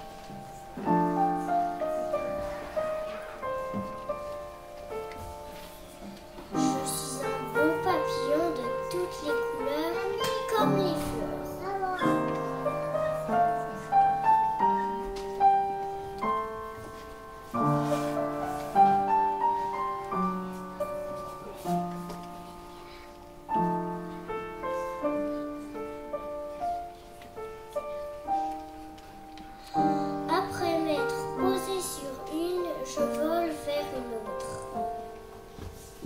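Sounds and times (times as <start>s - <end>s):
upright piano playing: 0.0s - 36.0s.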